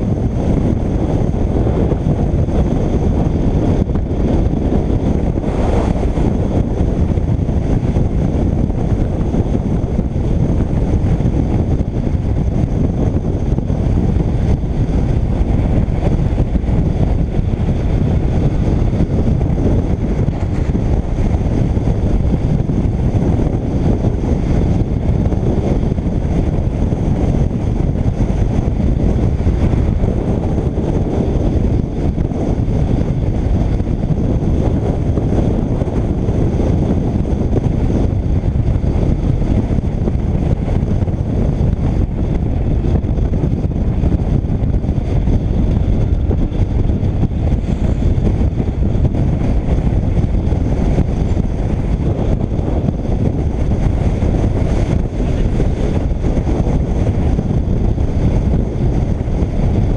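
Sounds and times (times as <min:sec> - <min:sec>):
motorcycle road noise: 0:00.0 - 0:59.9
wind rumble on microphone: 0:00.0 - 0:59.9.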